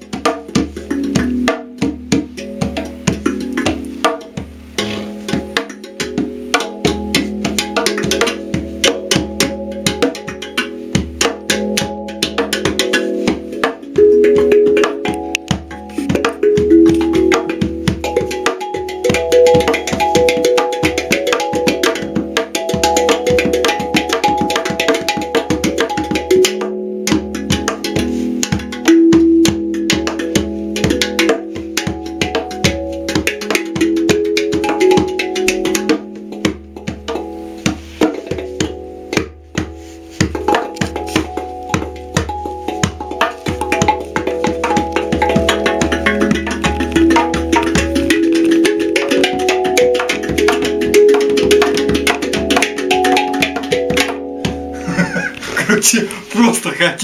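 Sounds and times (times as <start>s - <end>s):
hang drum ringing notes: 0.0s - 57.0s.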